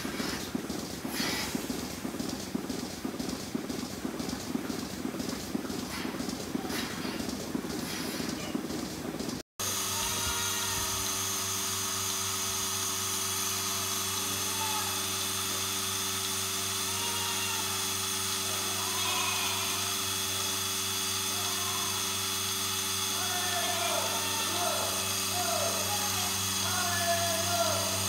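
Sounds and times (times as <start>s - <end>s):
milking machine motor humming: 0.0s - 28.0s.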